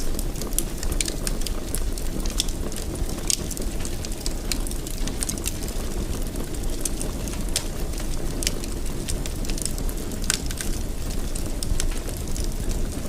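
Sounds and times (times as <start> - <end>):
fire crackles and pops: 0.0 - 13.0
flames rumbling: 0.0 - 13.0.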